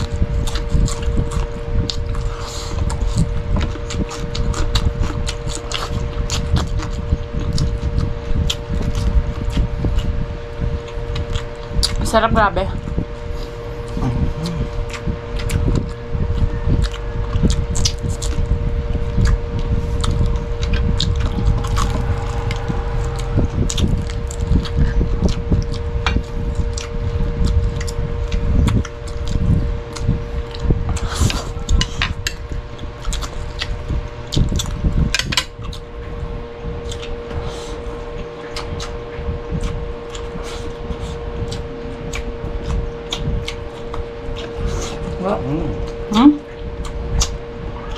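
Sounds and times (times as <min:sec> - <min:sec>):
chewing: 0:00.0 - 0:12.0, 0:12.9 - 0:45.2, 0:45.8 - 0:47.9
dense low rumble: 0:00.0 - 0:47.9
steady hum: 0:00.0 - 0:47.9.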